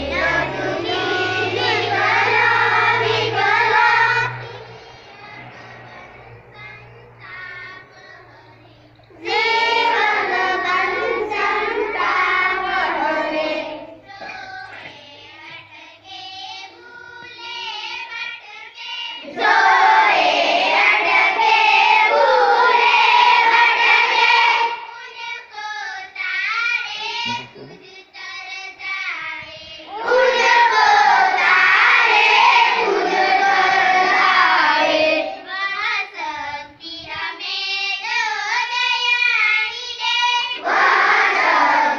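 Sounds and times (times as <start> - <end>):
children singing together: 0.0 - 41.9.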